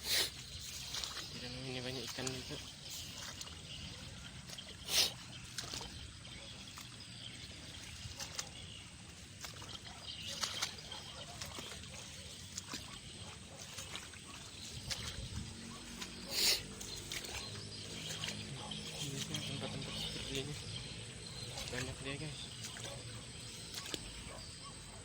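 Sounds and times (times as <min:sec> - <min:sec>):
wading through water: 0:00.0 - 0:25.0.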